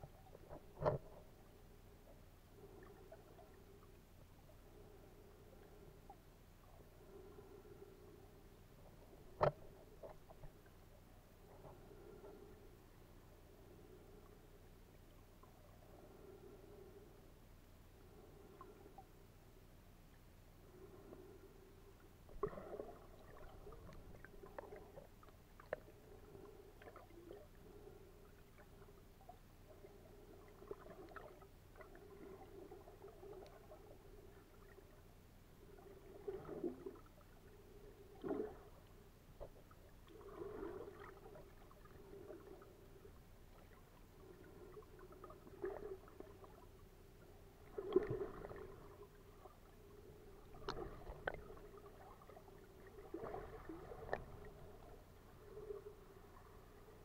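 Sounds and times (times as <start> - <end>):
faint underwater hum: 0.0 - 57.0
water swishes: 0.0 - 57.0.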